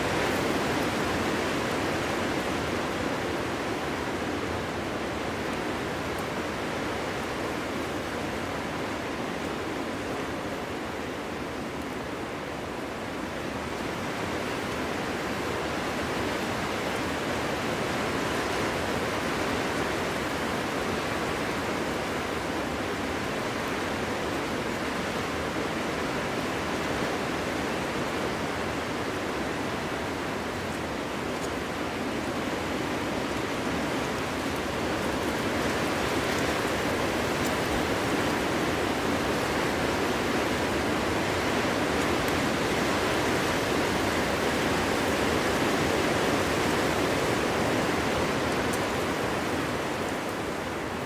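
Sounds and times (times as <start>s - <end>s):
wind blowing through forest: 0.0s - 51.0s.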